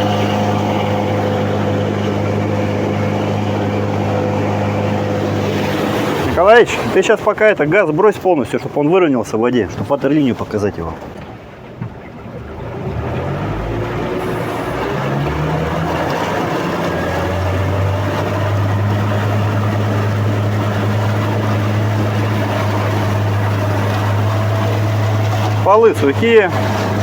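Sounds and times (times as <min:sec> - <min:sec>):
vehicle engine revving: 0:00.0 - 0:07.0, 0:12.3 - 0:27.0
tyres paddling through water: 0:00.0 - 0:27.0.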